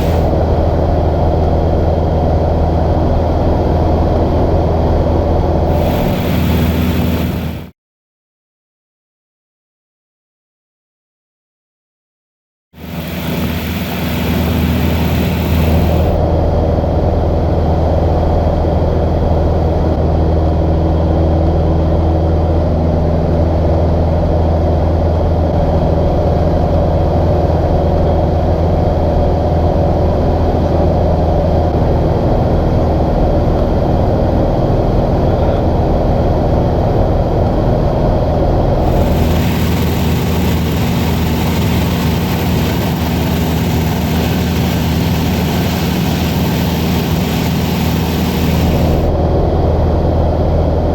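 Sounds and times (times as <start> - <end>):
light aircraft engine droning: 0.0 - 7.7, 12.8 - 50.9.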